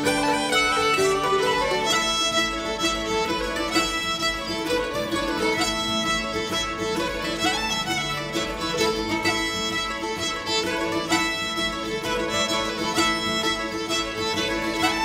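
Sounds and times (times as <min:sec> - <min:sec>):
folk music led by fiddle: 0:00.0 - 0:15.0.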